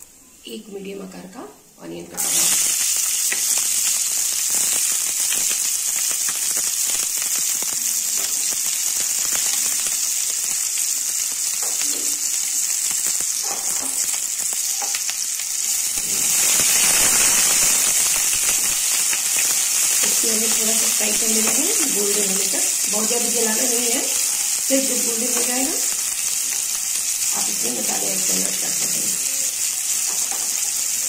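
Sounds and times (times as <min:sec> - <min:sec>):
onion sizzling in oil: 0:01.8 - 0:31.0.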